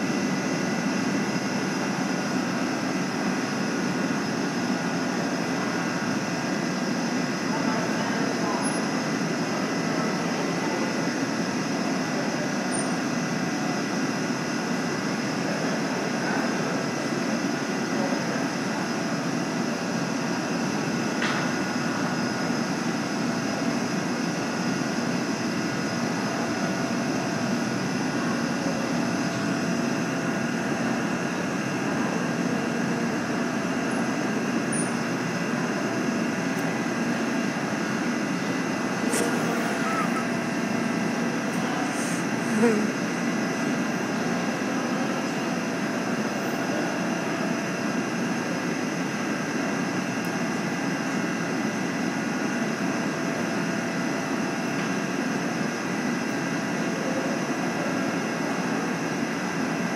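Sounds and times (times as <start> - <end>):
mechanical drone with humming tones: 0.0 - 57.5.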